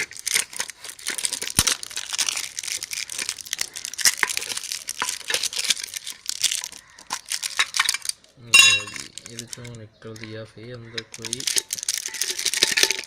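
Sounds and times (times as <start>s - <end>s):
packaging crinkling and tearing: 0.0s - 8.3s, 8.9s - 13.0s.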